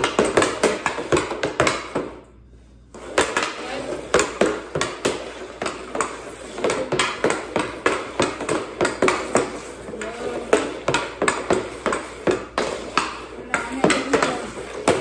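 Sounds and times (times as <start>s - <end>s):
hockey stick clacking against puck: 3.0s - 15.0s.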